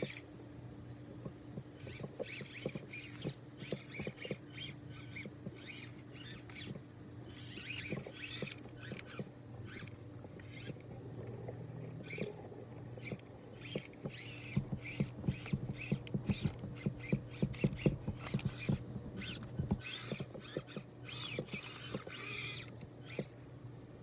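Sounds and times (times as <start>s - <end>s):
small electric motor whirring: 0.0s - 0.3s, 1.2s - 23.3s.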